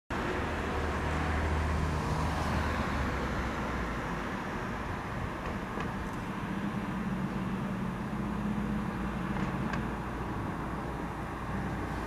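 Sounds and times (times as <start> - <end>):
outdoor noise: 0.1 - 12.0
road traffic rumble: 0.1 - 12.0.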